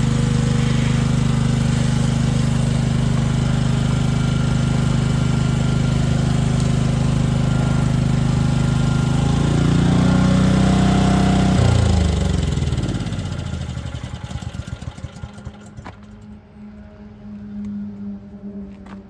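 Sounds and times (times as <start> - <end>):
lorry diesel engine running down: 0.0 - 16.5.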